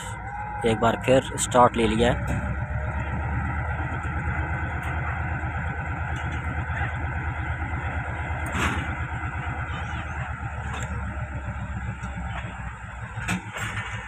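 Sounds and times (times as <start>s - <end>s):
train coaches rumbling past: 0.0s - 14.0s.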